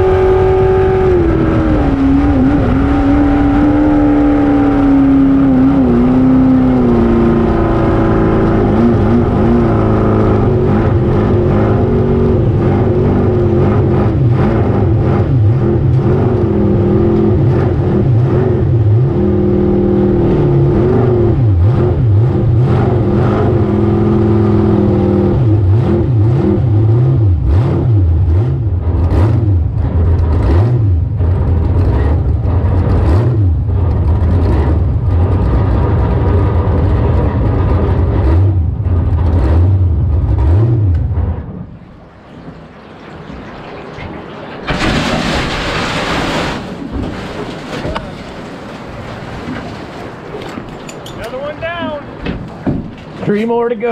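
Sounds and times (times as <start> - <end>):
water buffets and slaps: 0.0 - 53.9.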